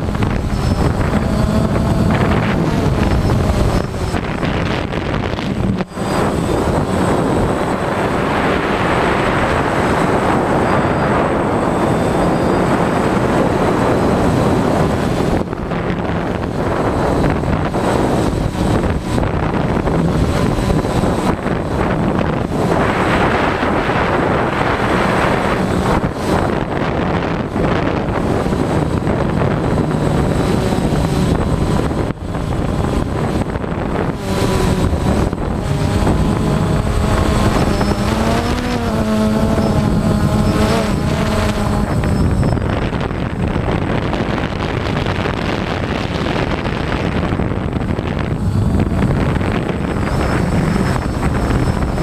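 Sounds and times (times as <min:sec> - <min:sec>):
drone propellers buzzing: 0:00.0 - 0:52.0.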